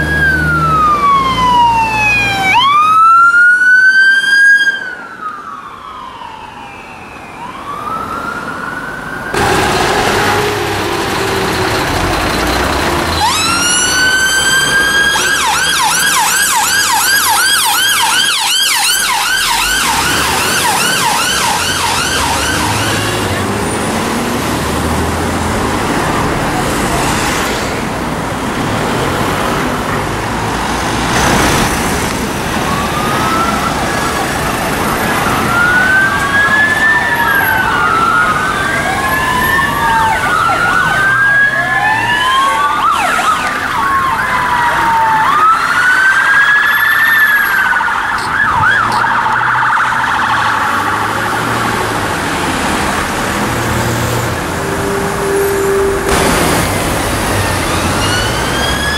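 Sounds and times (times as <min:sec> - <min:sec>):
police sirens wailing: 0:00.0 - 0:58.9
traffic noise: 0:00.0 - 0:58.9.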